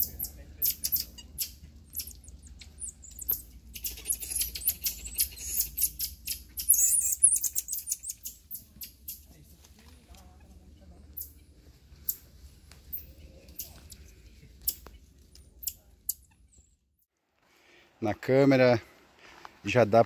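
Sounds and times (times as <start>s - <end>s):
marmosets chirping and squeaking: 0.0s - 9.4s, 10.0s - 16.8s.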